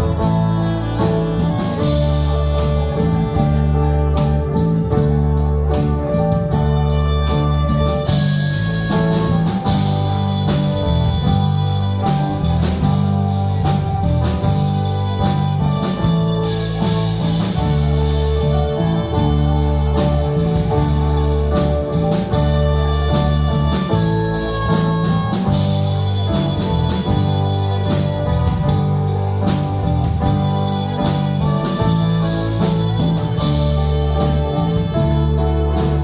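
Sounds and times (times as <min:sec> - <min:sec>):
bass: 0:00.0 - 0:36.0
guitar: 0:00.0 - 0:36.0
keyboard chords: 0:00.0 - 0:36.0
steady drum beat: 0:00.0 - 0:36.0.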